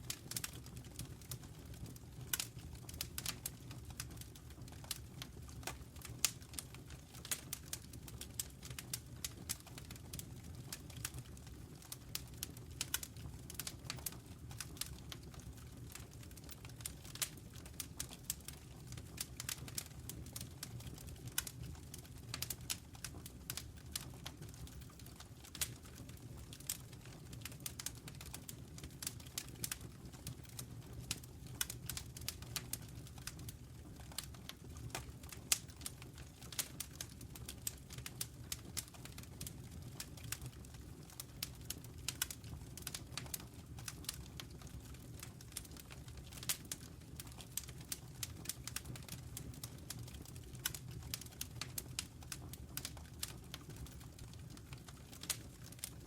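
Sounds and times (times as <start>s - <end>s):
logs crackling and popping: 0.0s - 56.0s
low rumble of flames: 0.0s - 56.0s.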